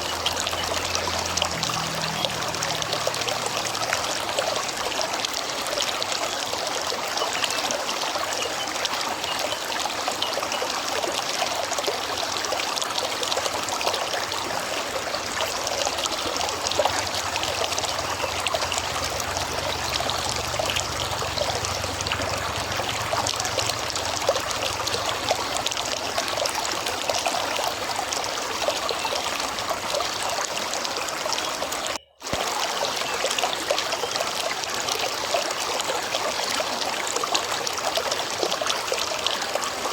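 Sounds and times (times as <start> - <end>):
river flowing and trickling: 0.0 - 39.9.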